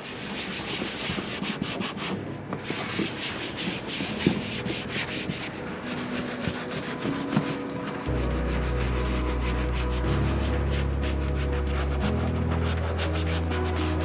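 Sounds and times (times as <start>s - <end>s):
foam pad scrubbing plastic: 0.0s - 14.0s.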